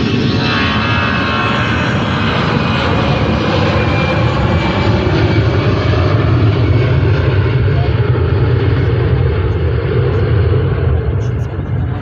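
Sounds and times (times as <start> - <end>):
airliner engines rumbling: 0.0 - 12.0
faint high engine whine: 0.0 - 12.0.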